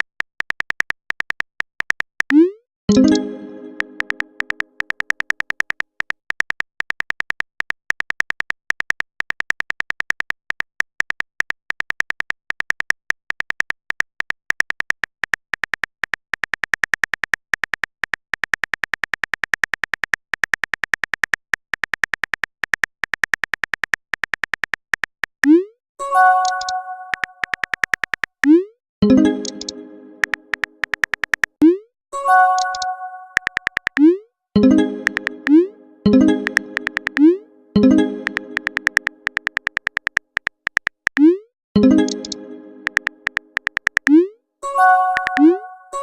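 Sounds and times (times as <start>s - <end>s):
phone keyboard typing clicks: 0.0s - 25.6s, 26.3s - 31.6s, 32.3s - 44.3s, 45.0s - 46.0s.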